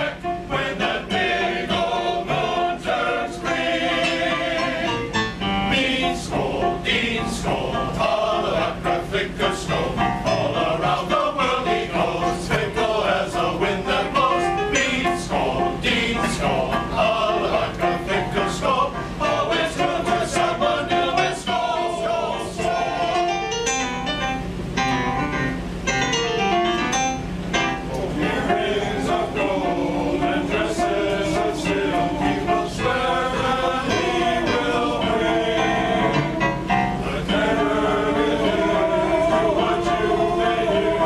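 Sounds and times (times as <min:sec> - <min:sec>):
male chorus singing: 0:00.0 - 0:23.6, 0:28.0 - 0:41.0
steady low hum: 0:00.0 - 0:41.0.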